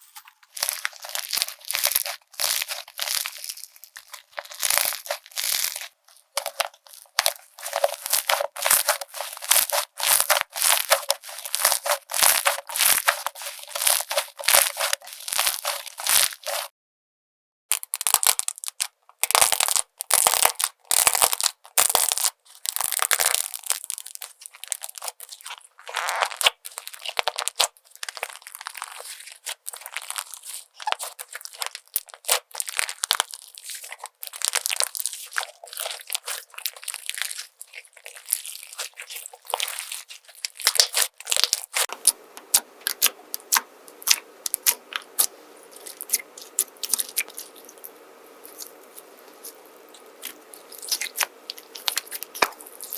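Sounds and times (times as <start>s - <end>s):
slime crackling and popping: 0.1s - 16.7s, 17.7s - 52.9s.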